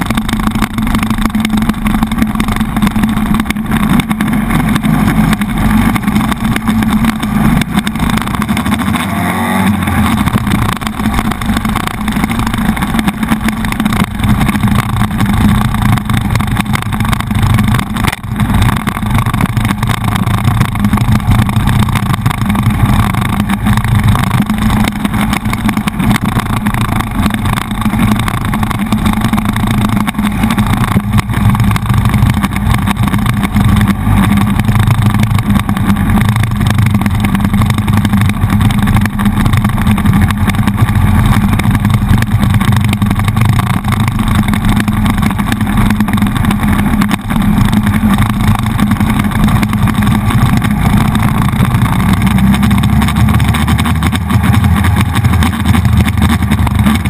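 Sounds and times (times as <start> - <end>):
motorcycle engine running: 0.0 - 57.0
road noise: 0.0 - 57.0
wind noise on camera: 0.0 - 57.0.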